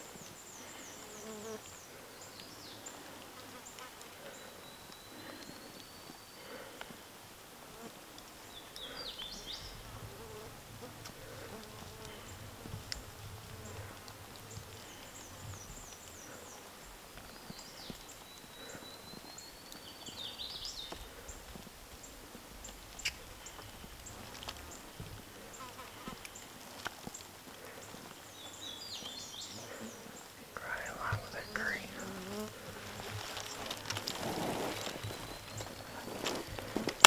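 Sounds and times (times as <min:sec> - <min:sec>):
songbird singing: 0:00.0 - 0:37.0.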